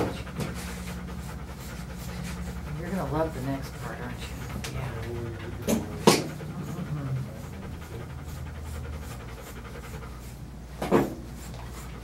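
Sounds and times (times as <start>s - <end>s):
large dog panting: 0.0s - 12.0s.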